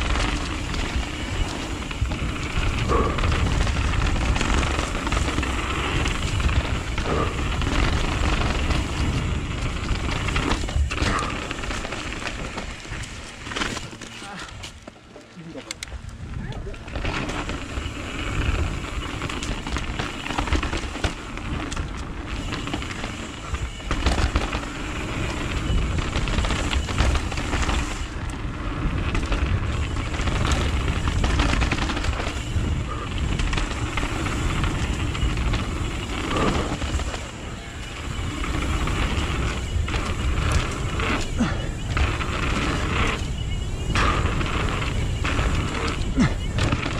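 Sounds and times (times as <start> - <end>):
wind buffeting microphone: 0.0 - 13.5, 15.8 - 46.9
bike rattling over bumps: 0.0 - 46.9
tyres on dirt: 0.0 - 46.9.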